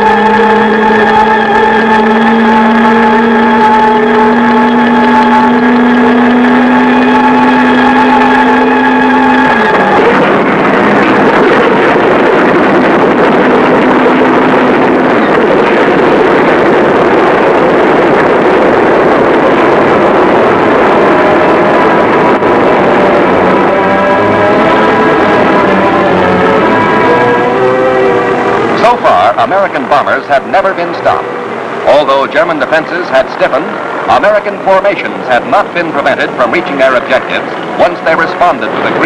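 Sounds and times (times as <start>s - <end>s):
radial aircraft engines roaring: 0.0s - 39.0s
steady rising tone: 0.0s - 39.0s.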